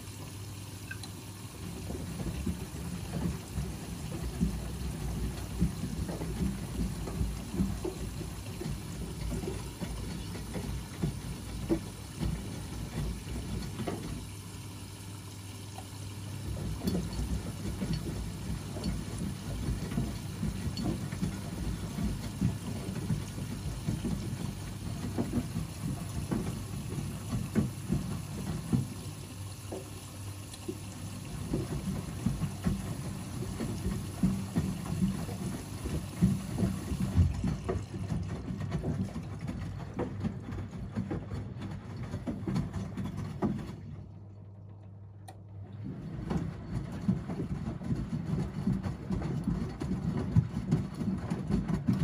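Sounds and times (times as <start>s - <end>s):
washing machine water sloshing: 0.0s - 52.0s.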